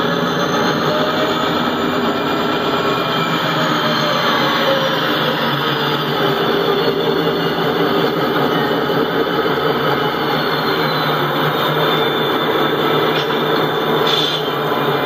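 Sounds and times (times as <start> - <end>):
train rolling: 0.0 - 15.0.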